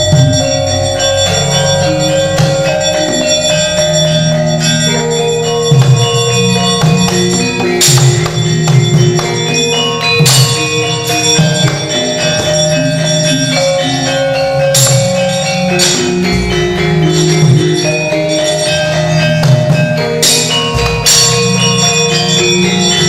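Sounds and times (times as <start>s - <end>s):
gamelan playing: 0.0s - 23.0s
sharp strikes: 0.0s - 23.0s.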